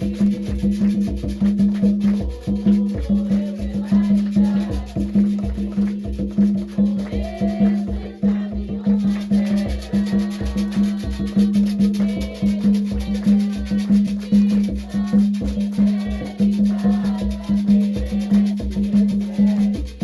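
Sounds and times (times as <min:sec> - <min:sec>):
drums playing a steady beat: 0:00.0 - 0:20.0
shaker: 0:00.0 - 0:20.0.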